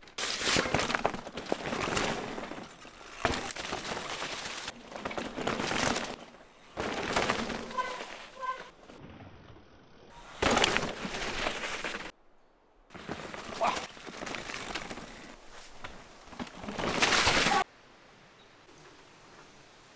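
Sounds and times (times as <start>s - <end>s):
bike drivetrain rattle: 0.0s - 9.3s, 10.1s - 12.2s, 12.9s - 17.6s
mountain bike tyre noise: 0.0s - 17.7s.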